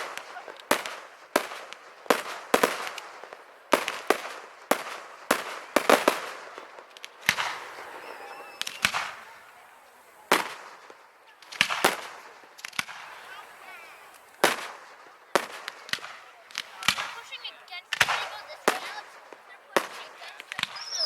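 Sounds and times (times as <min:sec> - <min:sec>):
fireworks bursting with crackling: 0:00.0 - 0:21.0.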